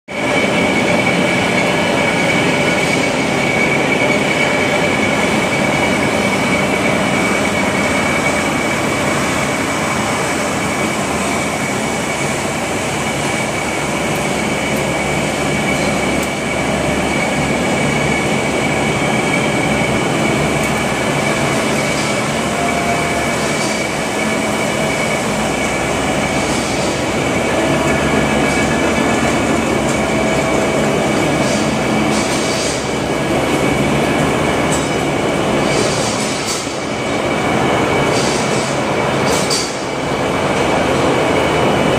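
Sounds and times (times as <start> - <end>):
high machine whine: 0.1 - 41.9
loud steady machine noise: 0.1 - 41.9.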